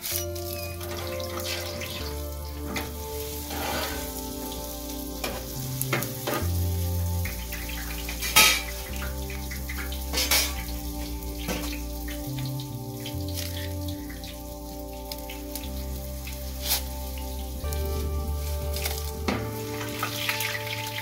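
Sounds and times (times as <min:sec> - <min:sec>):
dough sizzling in hot oil: 0:00.0 - 0:21.0
soft background music: 0:00.0 - 0:21.0.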